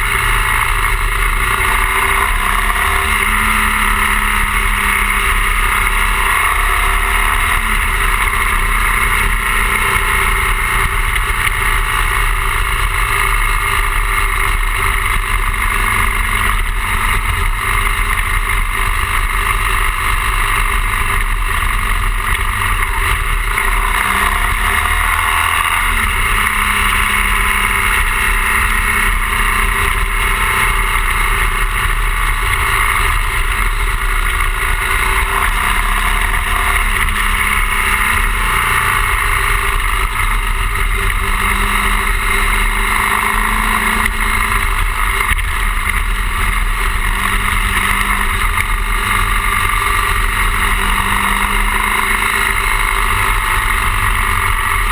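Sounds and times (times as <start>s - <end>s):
motorcycle engine running: 0.0s - 54.9s
wind and road rush: 0.0s - 54.9s.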